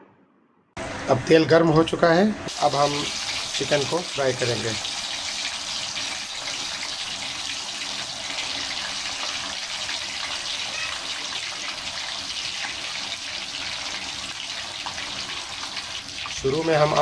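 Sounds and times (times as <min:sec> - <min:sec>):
food deep-frying in oil: 0:02.5 - 0:17.0.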